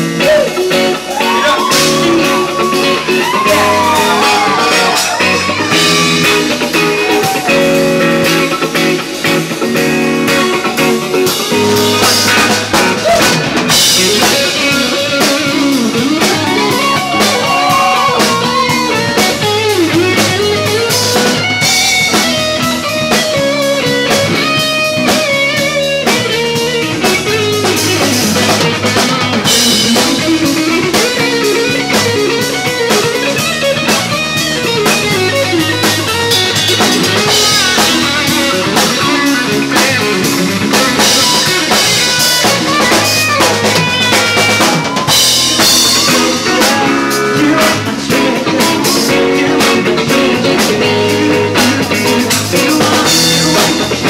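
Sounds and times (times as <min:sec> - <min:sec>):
drum kit beating: 0:00.0 - 0:54.0
electric guitar strumming: 0:00.0 - 0:54.0.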